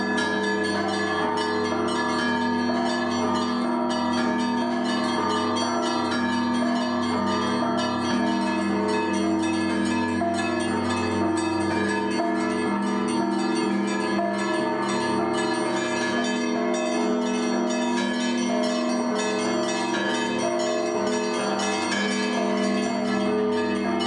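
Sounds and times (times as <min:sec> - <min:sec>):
small bells ringing rapidly: 0:00.0 - 0:24.0.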